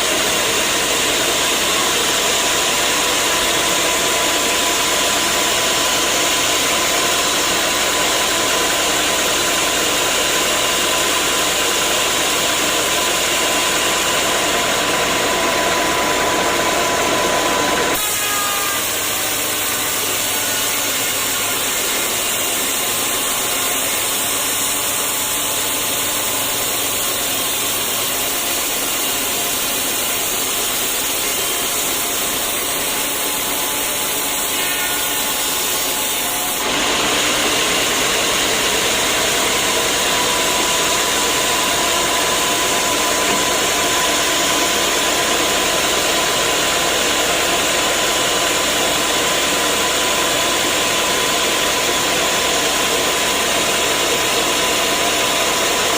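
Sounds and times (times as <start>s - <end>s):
sawmill saw cutting logs: 0.0s - 55.9s.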